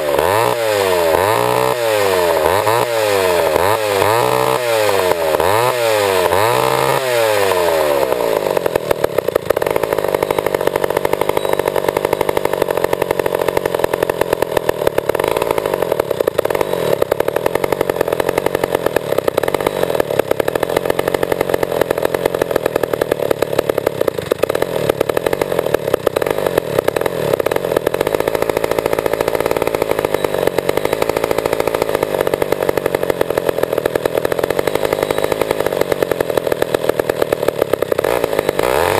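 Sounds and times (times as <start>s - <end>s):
chainsaw revving and running: 0.0s - 38.9s.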